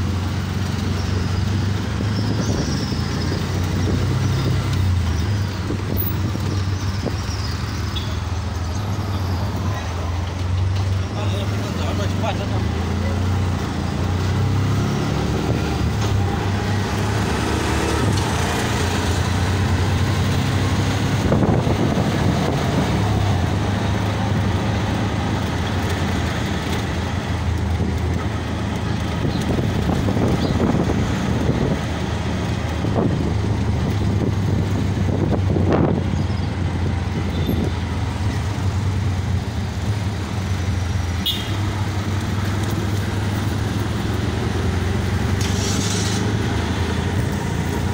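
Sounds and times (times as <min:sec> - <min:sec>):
auto-rickshaw engine running: 0:00.0 - 0:47.9.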